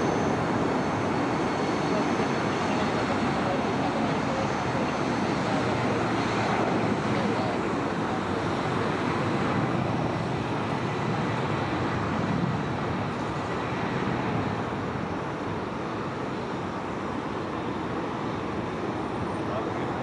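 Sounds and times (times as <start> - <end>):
jet engines rumbling at takeoff: 0.0 - 20.0.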